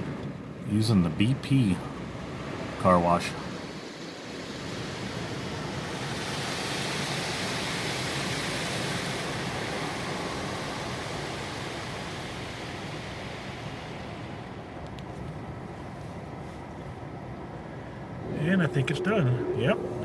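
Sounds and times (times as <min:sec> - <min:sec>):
car wash spraying water: 0:01.2 - 0:17.4.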